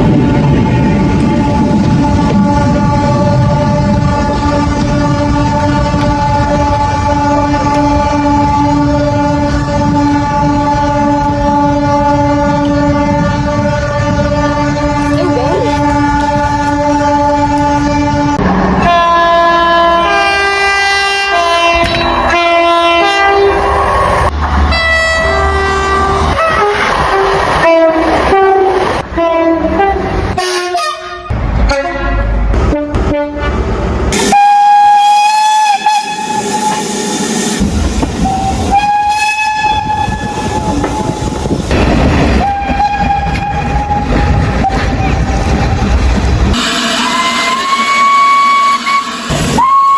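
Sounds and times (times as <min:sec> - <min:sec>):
train rumble and wheel clatter: 0:00.0 - 0:49.9
train horn blasts: 0:01.3 - 0:23.7, 0:24.7 - 0:37.1, 0:38.2 - 0:41.2, 0:42.4 - 0:45.3, 0:46.5 - 0:49.9.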